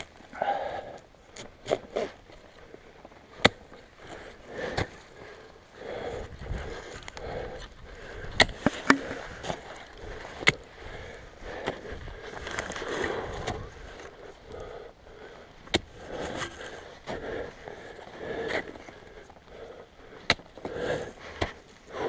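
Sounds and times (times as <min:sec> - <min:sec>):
ice axe and crampons clicking: 0:00.0 - 0:05.5, 0:06.1 - 0:14.8, 0:15.6 - 0:22.0.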